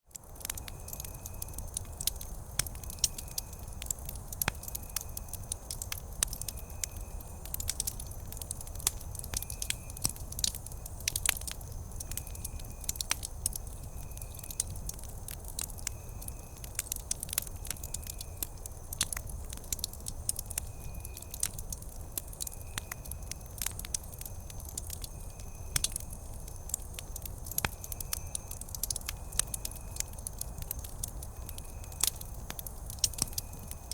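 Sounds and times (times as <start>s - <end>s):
campfire crackling and popping: 0.1s - 33.9s.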